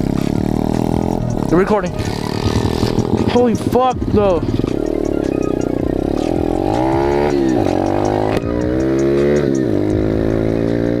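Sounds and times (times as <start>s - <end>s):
motorbike engine accelerating: 0.0s - 11.0s.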